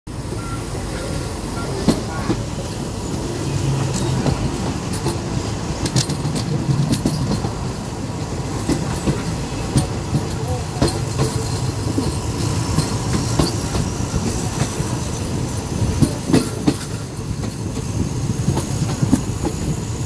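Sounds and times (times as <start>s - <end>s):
train wheels rumbling: 0.1s - 20.0s
wheels clacking over rail joints: 0.3s - 20.0s.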